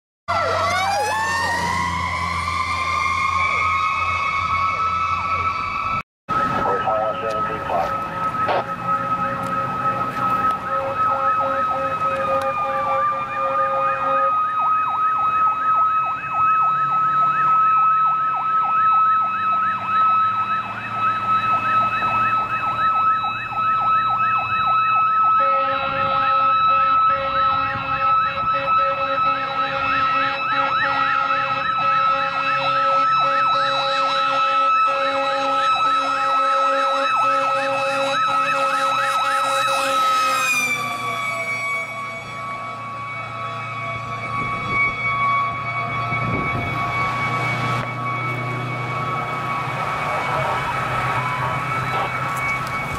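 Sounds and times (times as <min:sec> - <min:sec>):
high steady siren tone: 0:00.3 - 0:52.9
lower steady siren tone: 0:00.3 - 0:52.9
rise-and-fall siren yelp: 0:00.3 - 0:52.9.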